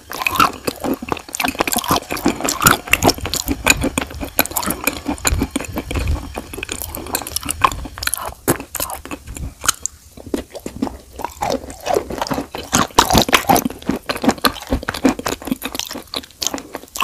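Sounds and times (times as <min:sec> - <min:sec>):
wet clay paste being chewed: 0:00.0 - 0:17.0.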